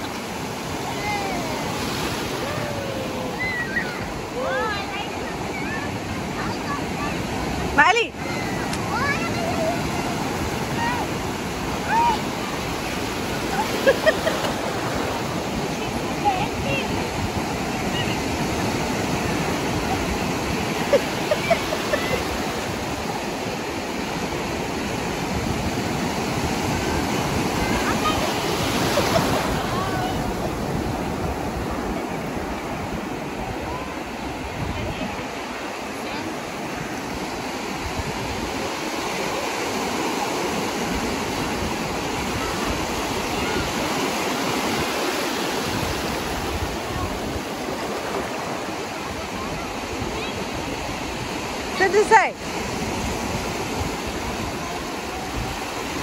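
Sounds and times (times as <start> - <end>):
sea surf breaking: 0.0 - 56.0
water washing through shallows: 0.0 - 56.0.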